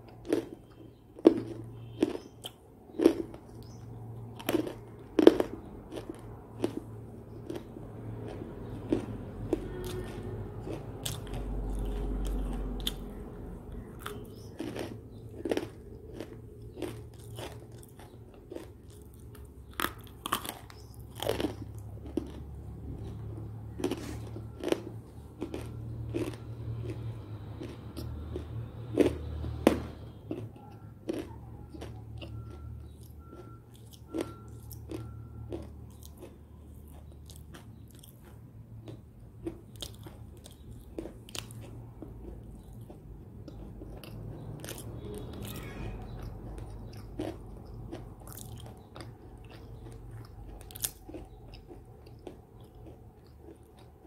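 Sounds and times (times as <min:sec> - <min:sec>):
crunchy cookie chewing: 0:00.0 - 0:54.0.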